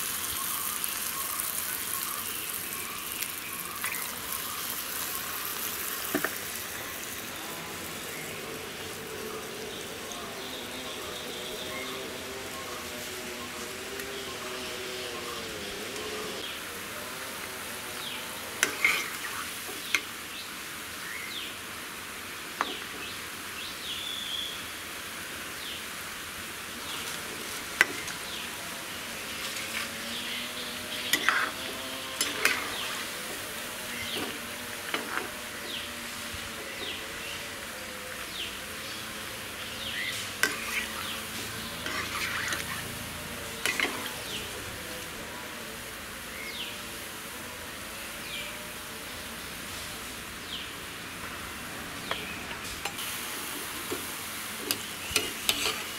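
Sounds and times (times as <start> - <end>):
food sizzling in oil: 0.0 - 45.2, 48.6 - 55.9.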